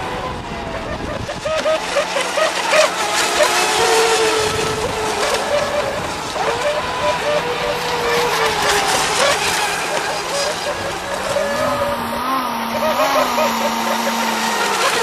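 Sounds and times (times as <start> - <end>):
model boat engine at high revs: 0.0 - 15.0.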